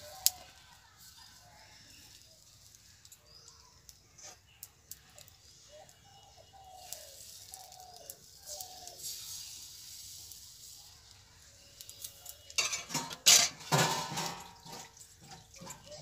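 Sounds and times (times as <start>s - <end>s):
faint distant bird calls: 0.0s - 16.0s.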